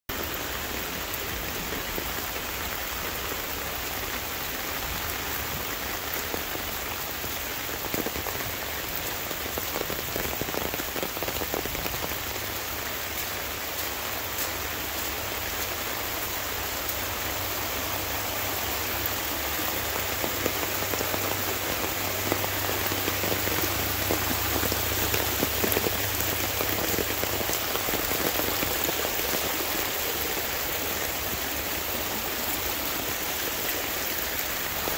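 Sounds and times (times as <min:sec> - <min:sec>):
steady rain falling: 0:00.1 - 0:34.9
water rushing down a ditch: 0:00.1 - 0:34.9.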